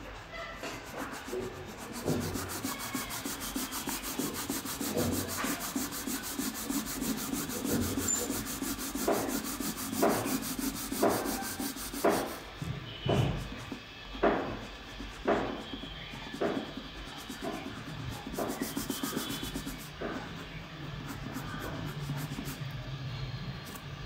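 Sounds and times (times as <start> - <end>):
crayon scribbling on paper: 0.0 - 12.5, 13.1 - 22.6.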